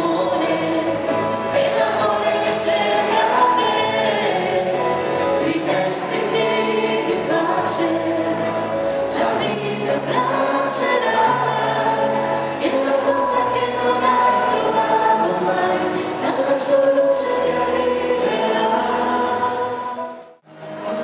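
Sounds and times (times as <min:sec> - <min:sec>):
choir singing a worship song: 0:00.0 - 0:20.4.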